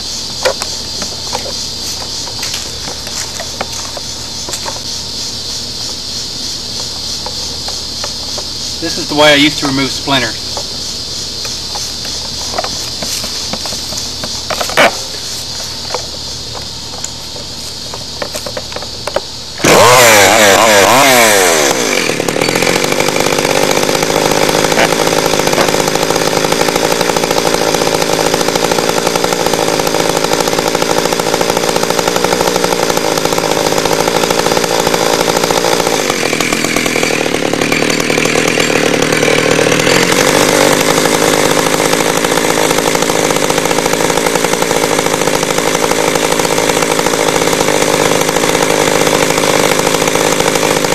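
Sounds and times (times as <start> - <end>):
chainsaw running: 0.0 - 50.9.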